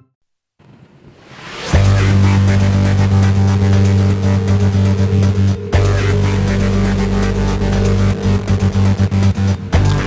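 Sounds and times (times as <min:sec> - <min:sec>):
electronic music with a beat: 0:01.7 - 0:10.0.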